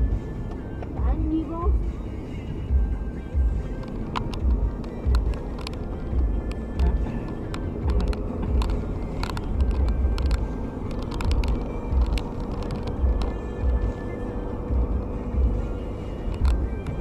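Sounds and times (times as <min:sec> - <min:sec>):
tyre and engine rumble: 0:00.0 - 0:17.0
sharp clicks and rattles: 0:02.7 - 0:17.0.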